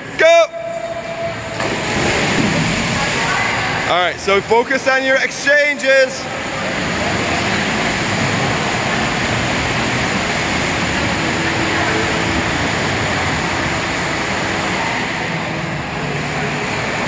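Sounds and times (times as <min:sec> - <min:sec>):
swimmers splashing in echoing pool: 0:00.0 - 0:17.0.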